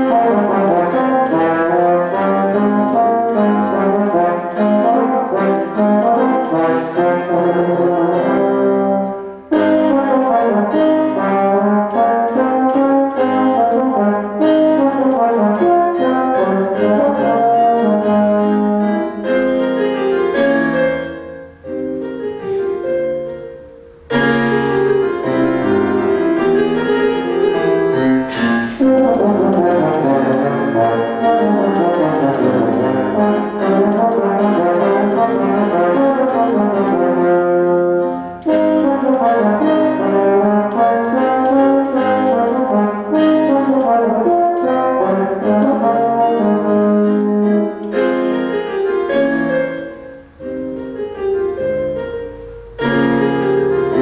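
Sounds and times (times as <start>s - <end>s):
tenor horn melody with accompaniment: 0.0s - 54.0s.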